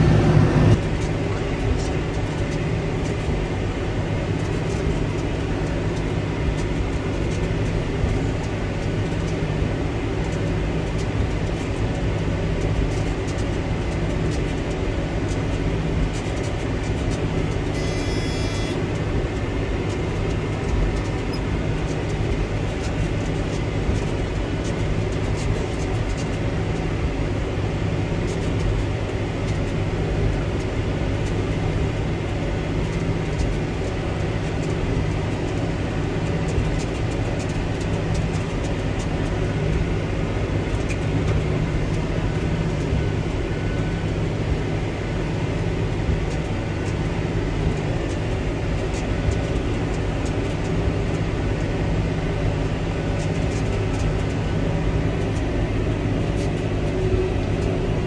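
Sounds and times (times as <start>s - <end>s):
tractor engine drone: 0.0s - 58.0s.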